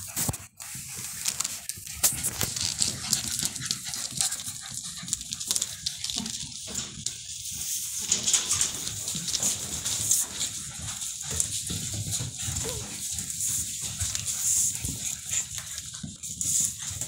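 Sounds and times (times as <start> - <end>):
paws clicking on hard floor: 0.0 - 17.0
puppy noises: 0.0 - 17.0.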